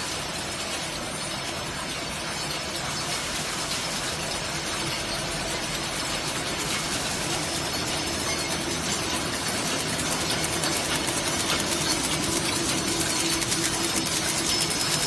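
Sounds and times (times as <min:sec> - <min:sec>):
packing machine clattering: 0:00.0 - 0:15.0.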